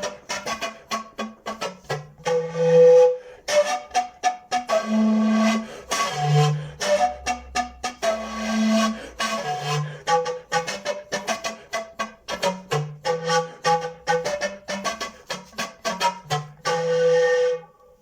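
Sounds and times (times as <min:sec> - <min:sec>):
panpipe melody: 0:00.0 - 0:18.0.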